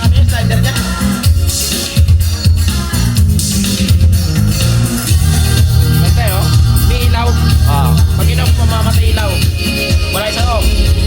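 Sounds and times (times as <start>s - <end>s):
person singing: 0.0s - 3.9s, 4.9s - 11.0s
heavy bass line: 0.0s - 11.0s
recorded song on hi-fi: 0.0s - 11.0s.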